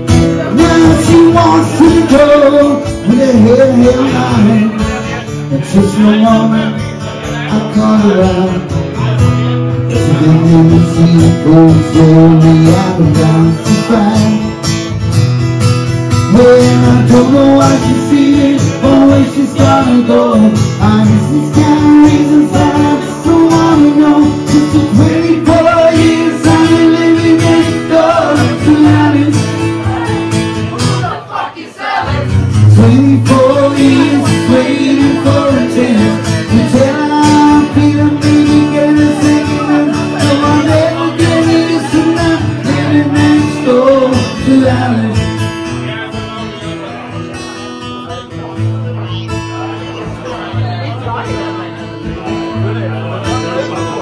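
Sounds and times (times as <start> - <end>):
man singing into a microphone: 0.0 - 15.0, 15.9 - 47.2
acoustic guitar: 0.0 - 54.0.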